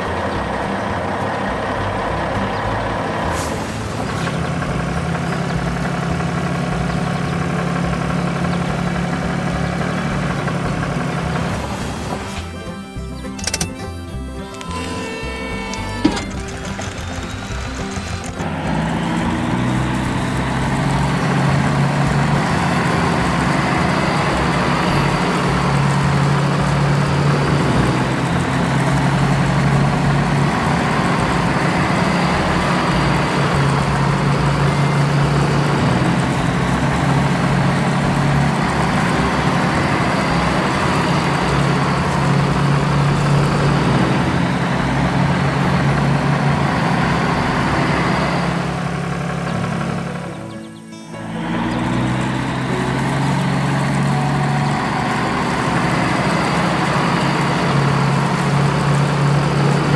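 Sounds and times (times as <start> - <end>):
combine harvester and tractor engines: 0.0 - 59.9.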